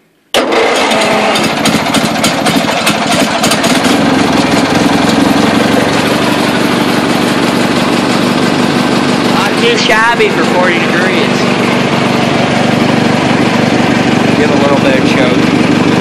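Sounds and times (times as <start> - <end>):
tractor engine starting and running: 0.2 - 16.0.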